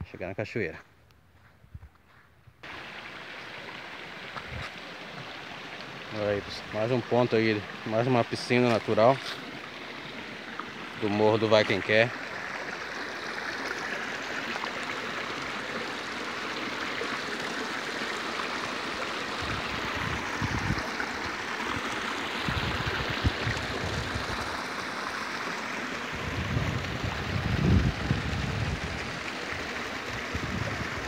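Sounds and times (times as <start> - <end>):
stream trickling over rocks: 2.6 - 31.0.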